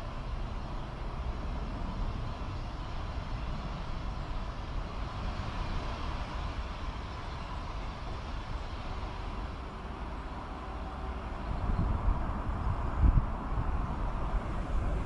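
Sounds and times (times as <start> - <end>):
jet engines rumbling and hissing: 0.0 - 15.0.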